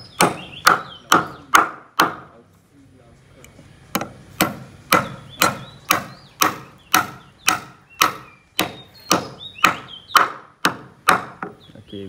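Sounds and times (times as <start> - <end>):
hammer driving nails into timber: 0.0 - 2.3, 3.9 - 11.6.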